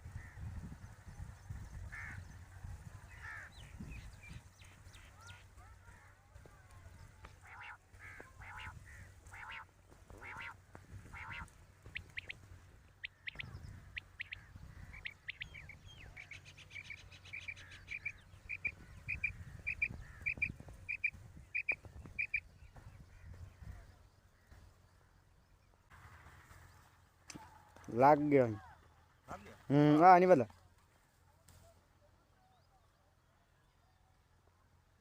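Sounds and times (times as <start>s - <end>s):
birds calling: 0.0s - 31.2s.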